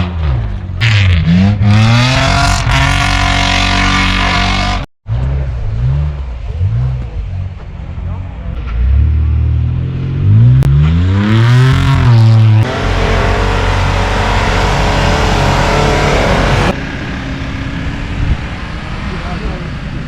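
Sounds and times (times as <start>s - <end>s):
engine revving: 0.0s - 7.4s, 8.6s - 20.0s.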